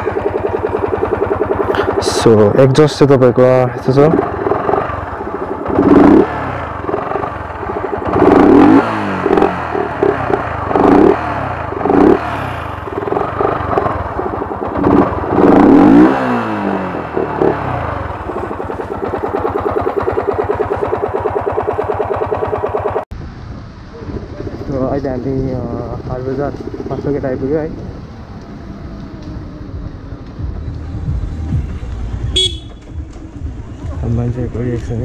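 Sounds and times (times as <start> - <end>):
motorcycle engine idling: 0.0 - 23.1, 24.4 - 35.0
motorcycle engine revving: 0.0 - 23.1, 24.4 - 35.0.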